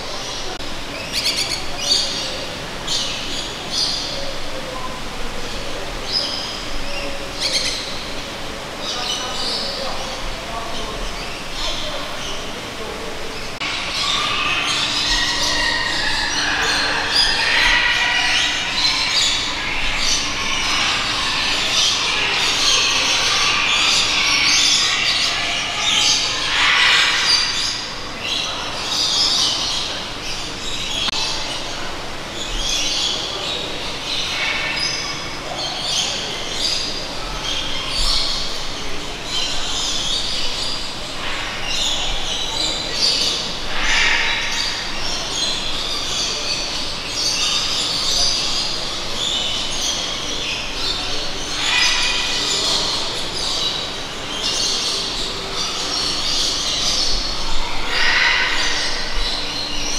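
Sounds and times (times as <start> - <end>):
birds calling and chirping: 0.0 - 59.9
steady background noise: 0.0 - 59.9.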